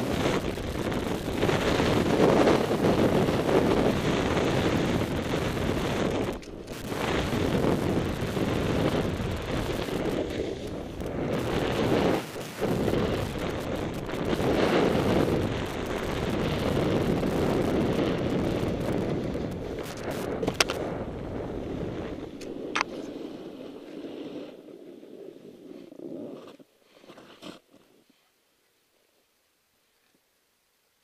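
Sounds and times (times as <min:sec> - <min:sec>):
wind on microphone: 0:00.0 - 0:26.6
snowboard scraping over snow: 0:00.0 - 0:28.3.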